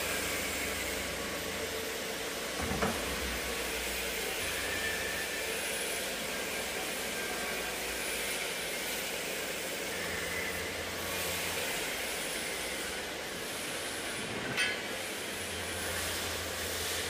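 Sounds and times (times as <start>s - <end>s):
tube bending machine hiss and hum: 0.0s - 17.0s.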